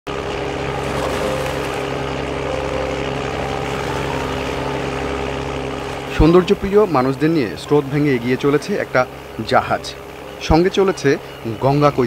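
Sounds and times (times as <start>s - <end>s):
ship engine humming: 0.1s - 12.0s
water churning: 0.2s - 11.6s.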